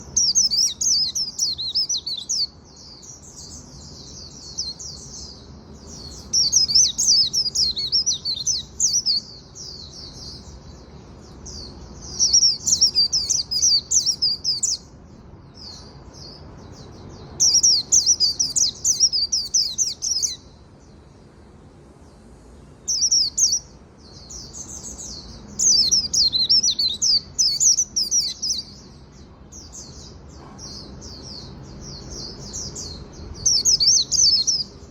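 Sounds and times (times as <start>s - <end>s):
bird twittering song: 0.0s - 34.9s.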